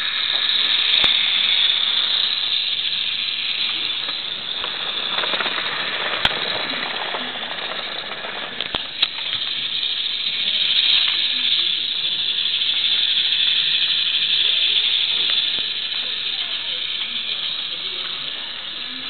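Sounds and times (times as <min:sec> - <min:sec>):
toy locomotive whirring: 0:00.0 - 0:19.0.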